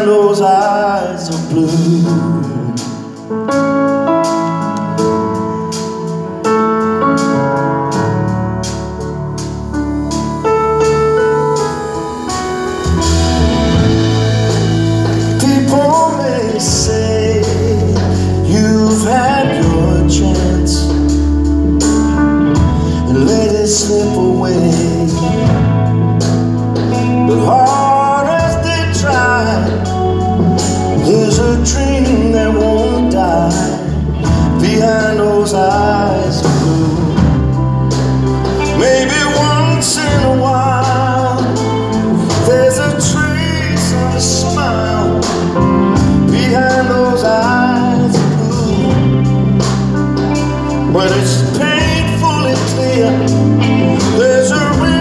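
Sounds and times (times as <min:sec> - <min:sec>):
bass line: 0:00.0 - 0:55.0
live band playing: 0:00.0 - 0:55.0
wavering lead melody: 0:00.0 - 0:55.0.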